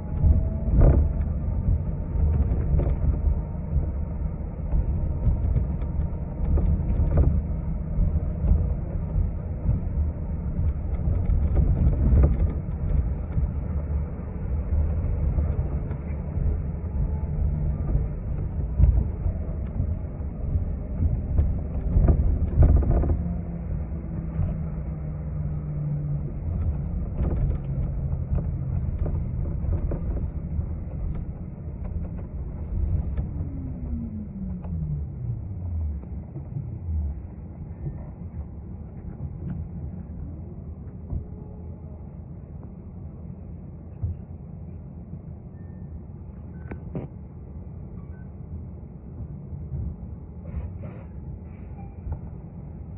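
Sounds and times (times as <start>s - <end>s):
bus engine and road rumble: 0.0s - 52.9s.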